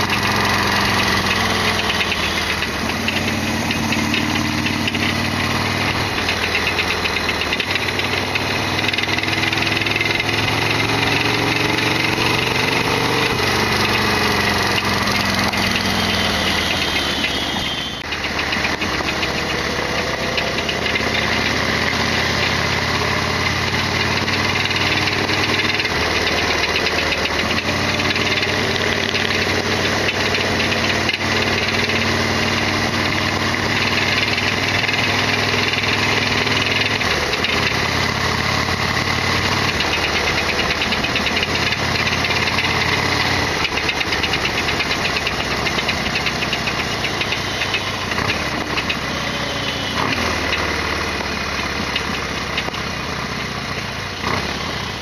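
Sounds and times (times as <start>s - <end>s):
mechanical rattling clatter: 0.0s - 55.0s
motorcycle engine revving: 0.0s - 55.0s.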